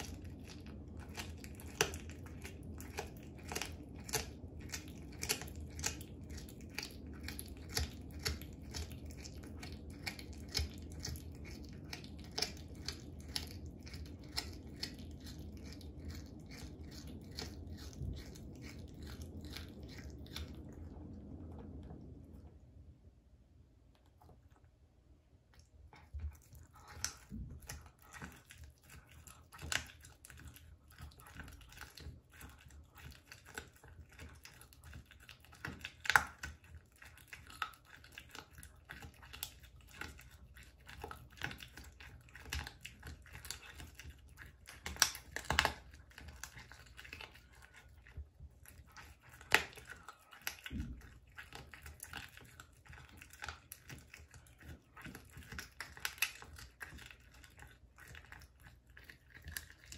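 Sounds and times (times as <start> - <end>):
cat crunching bones: 0.0 - 21.8, 25.5 - 59.9.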